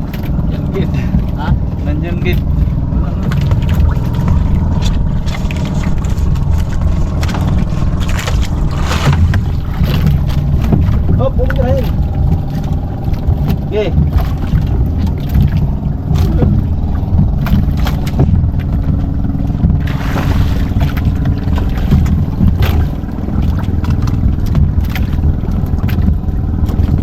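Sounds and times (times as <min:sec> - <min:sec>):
motorboat engine running: 0:00.0 - 0:27.0.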